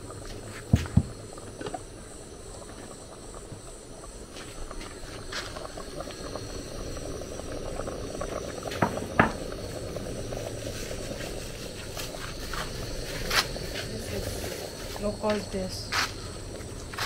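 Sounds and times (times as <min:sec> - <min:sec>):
soup bubbling and hissing: 0:00.0 - 0:17.0.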